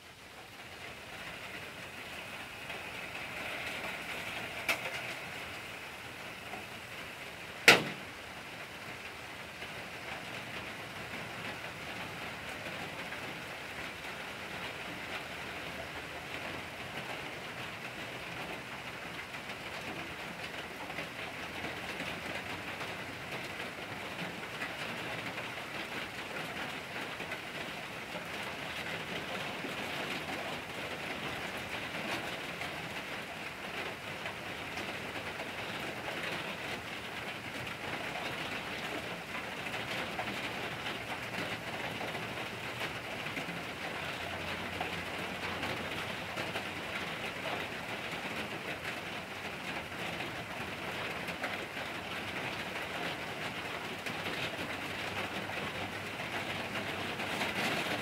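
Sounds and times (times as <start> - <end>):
steady rain on trees: 0.0 - 58.0.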